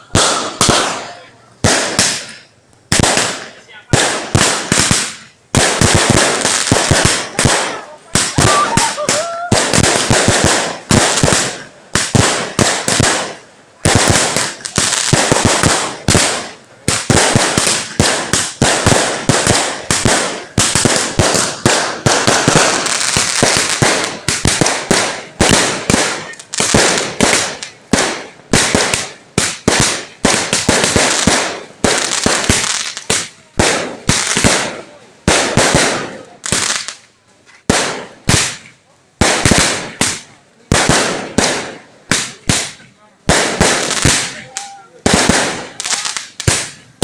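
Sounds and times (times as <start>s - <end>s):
firecrackers and fireworks exploding: 0.0s - 47.0s.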